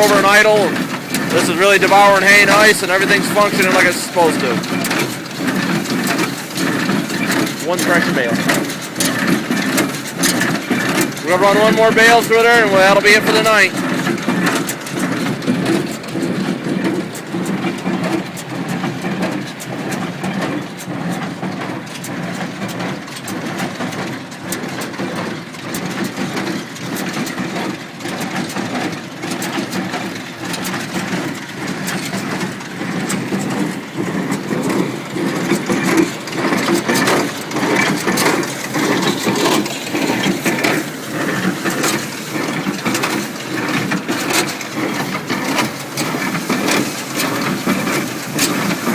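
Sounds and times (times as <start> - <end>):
baler plunger packing hay: 0.0 - 21.7, 29.5 - 48.9
tractor engine running: 0.0 - 48.9.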